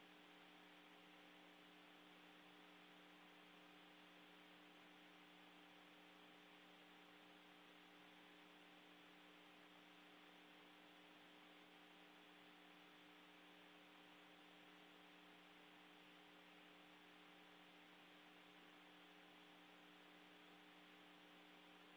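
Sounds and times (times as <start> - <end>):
faint hum with hiss: 0.0 - 21.9.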